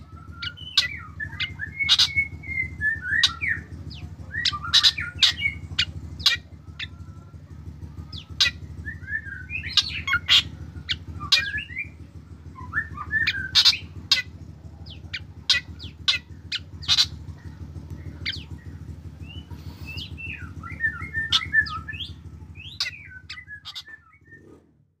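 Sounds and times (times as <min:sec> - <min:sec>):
bird singing: 0:00.0 - 0:24.7
steady low hum: 0:00.0 - 0:25.0.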